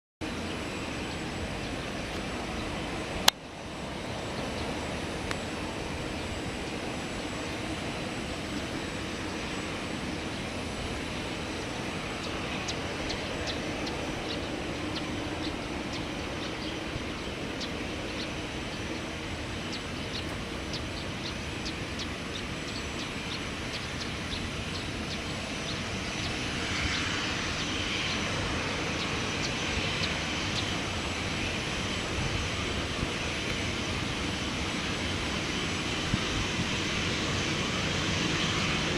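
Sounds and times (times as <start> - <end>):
airliner engines rushing: 0.2 - 38.9.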